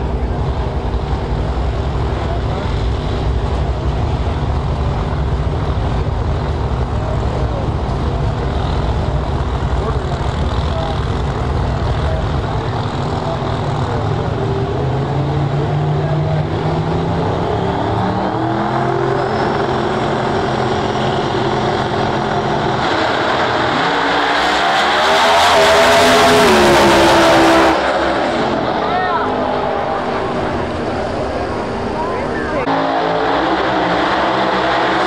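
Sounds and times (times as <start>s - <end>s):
drag racing car engines: 0.0s - 35.0s.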